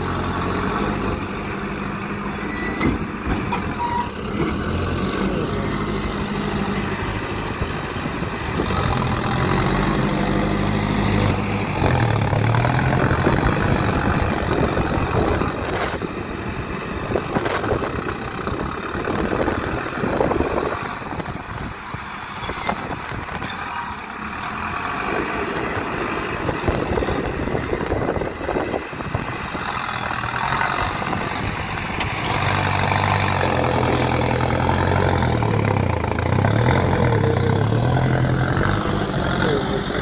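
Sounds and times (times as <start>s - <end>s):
tractor diesel engine running hard: 0.0s - 40.0s.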